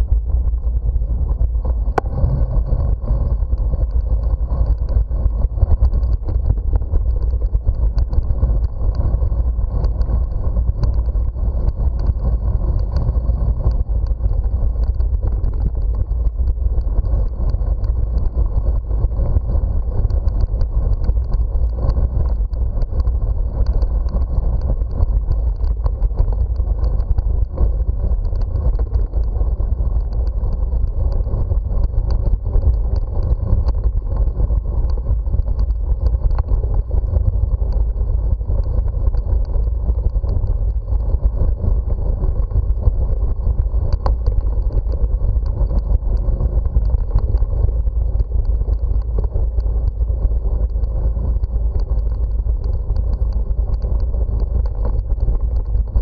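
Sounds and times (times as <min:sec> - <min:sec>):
bicycle tyres rolling on bricks: 0:00.0 - 0:56.0
wind buffeting microphone: 0:00.0 - 0:56.0.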